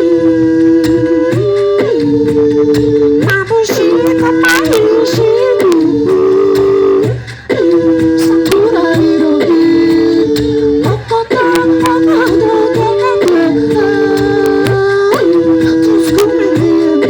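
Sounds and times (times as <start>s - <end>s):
light percussion: 0.0s - 17.0s.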